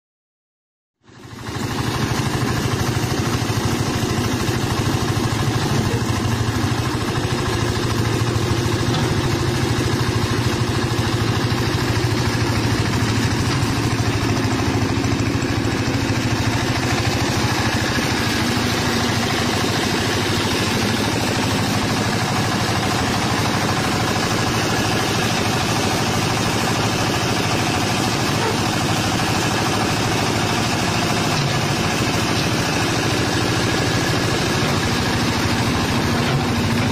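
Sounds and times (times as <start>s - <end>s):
diesel engine running steadily: 1.0s - 36.9s.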